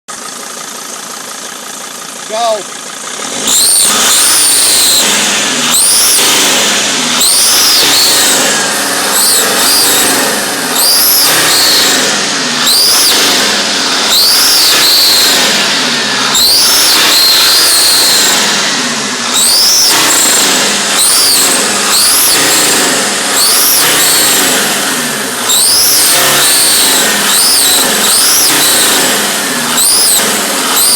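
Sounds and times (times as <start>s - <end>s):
diesel engine revving: 0.1s - 30.9s
turbocharger whistle: 2.2s - 30.9s.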